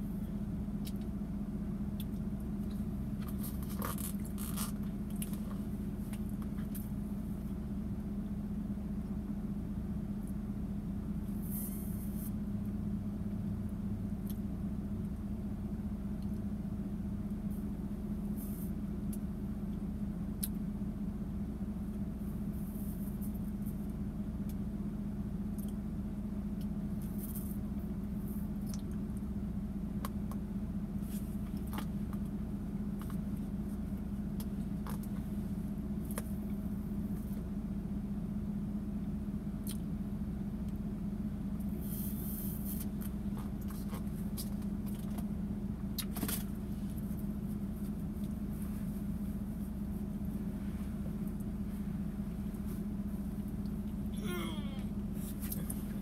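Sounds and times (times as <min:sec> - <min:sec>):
vehicle hum from inside cabin: 0:00.0 - 0:56.0.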